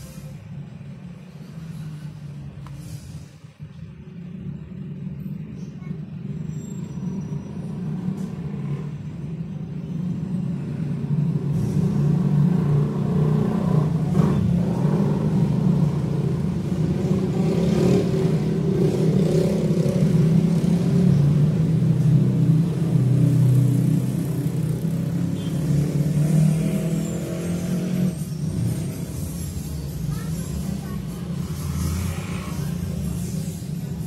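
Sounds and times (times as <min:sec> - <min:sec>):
engine rumbling: 0:00.0 - 0:34.0.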